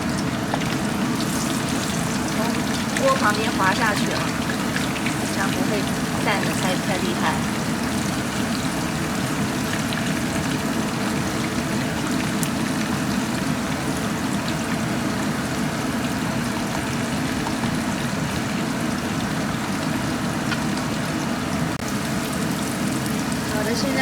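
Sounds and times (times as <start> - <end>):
oil crackles: 0.0 - 21.1
food sizzling in hot oil: 0.0 - 24.0.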